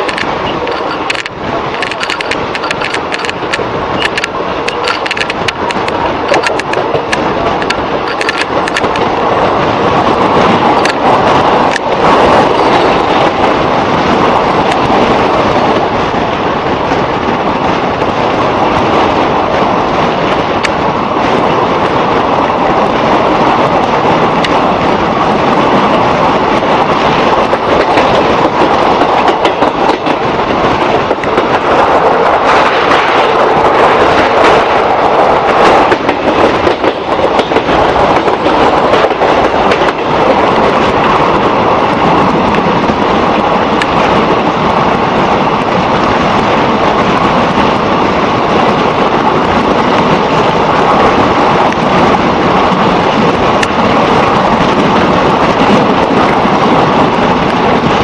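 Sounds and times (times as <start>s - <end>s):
train wheels rushing on track: 0.0s - 58.0s
wheels clicking over rail joints: 0.0s - 58.0s.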